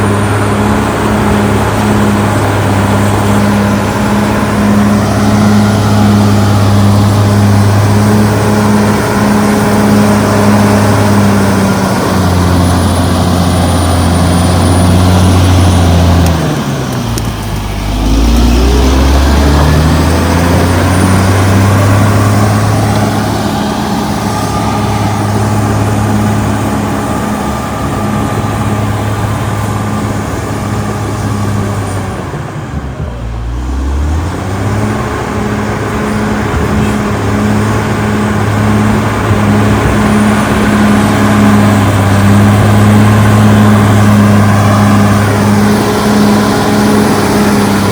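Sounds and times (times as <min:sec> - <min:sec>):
bulldozer diesel engine: 0:00.0 - 0:47.9.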